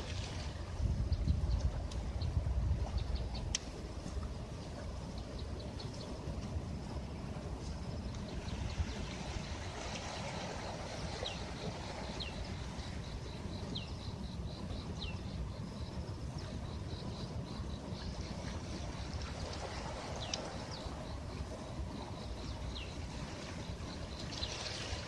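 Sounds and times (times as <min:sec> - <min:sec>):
sea waves on a beach: 0:00.0 - 0:25.0.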